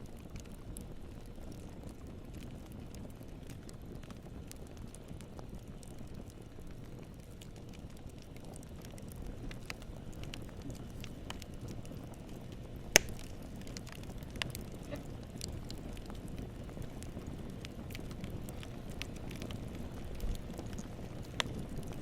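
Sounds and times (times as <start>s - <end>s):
campfire crackling: 0.0s - 22.0s
fire pops: 0.0s - 22.0s.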